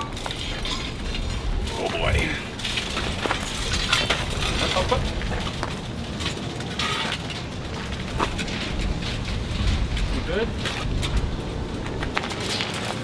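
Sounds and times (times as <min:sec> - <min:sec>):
metal rods clinking and knocking: 0:00.0 - 0:11.2.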